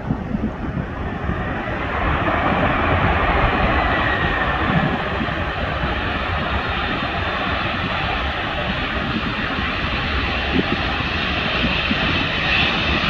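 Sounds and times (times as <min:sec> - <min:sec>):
jet engine roar: 0:00.0 - 0:13.0
wind buffeting microphone: 0:00.0 - 0:13.0.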